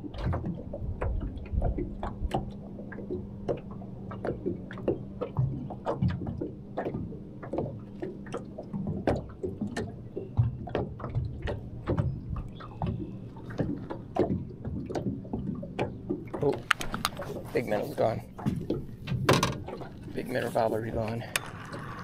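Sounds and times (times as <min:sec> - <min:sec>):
waves lapping against boat hull: 0:00.0 - 0:22.0.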